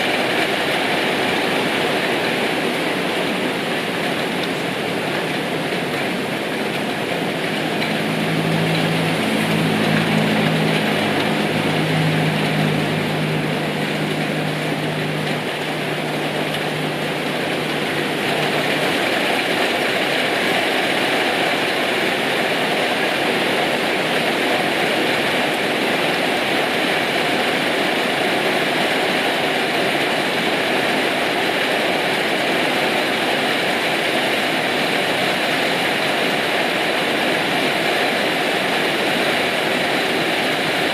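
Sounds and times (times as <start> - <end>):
heavy rain falling: 0.0 - 40.9
low engine hum: 0.0 - 40.9.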